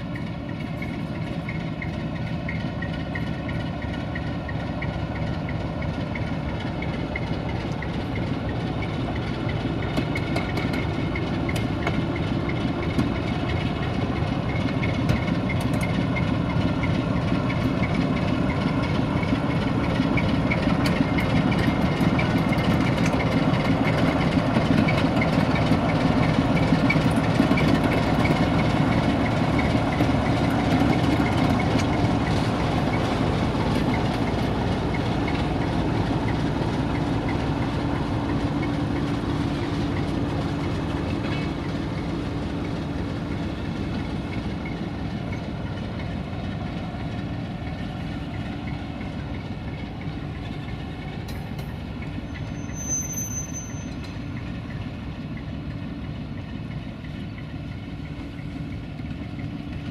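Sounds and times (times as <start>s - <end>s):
diesel locomotive engine running: 0.0s - 59.9s
wheels clicking over rails: 0.0s - 59.9s.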